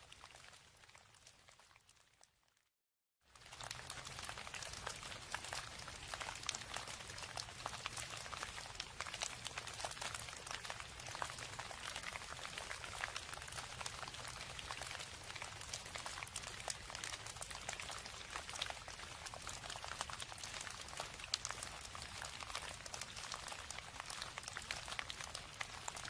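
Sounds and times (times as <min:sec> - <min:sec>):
rain drops ticking: 0:03.4 - 0:26.0.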